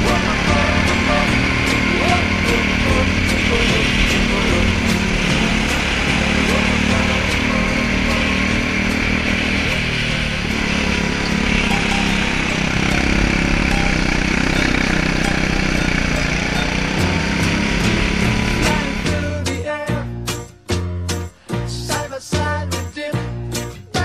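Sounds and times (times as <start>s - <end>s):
go-kart engine running hard: 0.0s - 19.4s.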